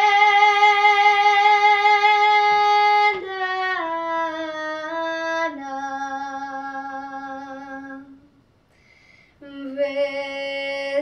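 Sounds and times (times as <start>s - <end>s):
girl singing unaccompanied: 0.0s - 8.3s, 9.4s - 11.0s.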